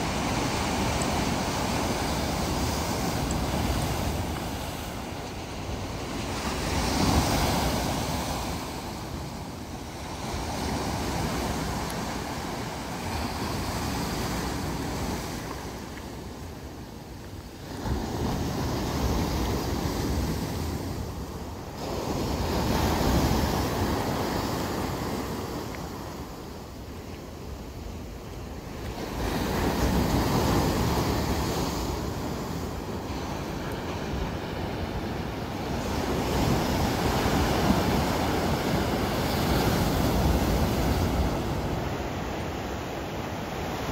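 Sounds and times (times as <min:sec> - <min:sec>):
surf washing over boulders: 0:00.0 - 0:43.9.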